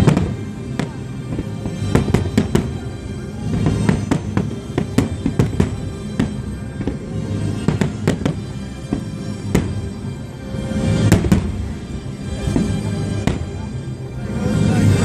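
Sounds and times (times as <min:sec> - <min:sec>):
fireworks bangs: 0:00.0 - 0:13.8
music playing: 0:00.0 - 0:15.0.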